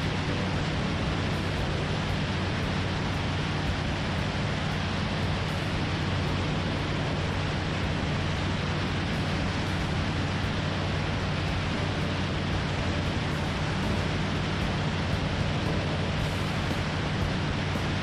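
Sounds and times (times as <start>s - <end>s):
engine and propeller drone: 0.0s - 18.0s
wind rushing over microphone: 0.0s - 18.0s.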